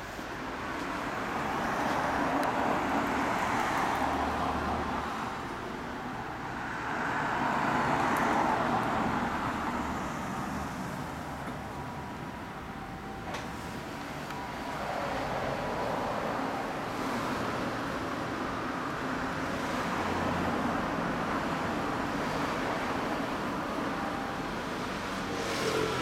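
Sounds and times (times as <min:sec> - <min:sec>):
vehicles passing by: 0:00.0 - 0:26.0.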